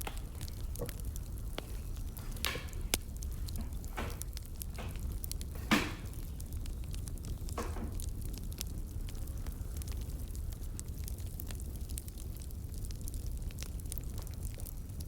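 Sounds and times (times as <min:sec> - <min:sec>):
firewood crackling and popping: 0:00.0 - 0:15.0
low fire rumble: 0:00.0 - 0:15.0.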